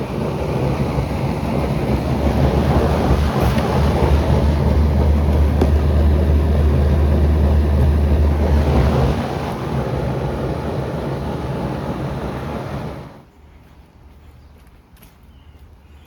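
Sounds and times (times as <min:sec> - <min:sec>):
compressor hum: 0:00.0 - 0:13.3
fan airflow rushing: 0:00.0 - 0:13.3.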